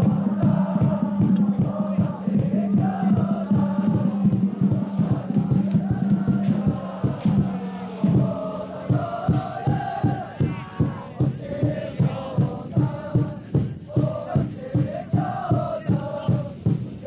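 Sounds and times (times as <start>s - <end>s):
crowd chanting in unison: 0.0s - 17.0s
steady drumbeat: 0.0s - 17.0s.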